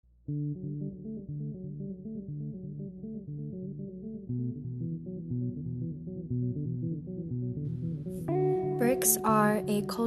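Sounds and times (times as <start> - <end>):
plucked string music: 0.3 - 10.0.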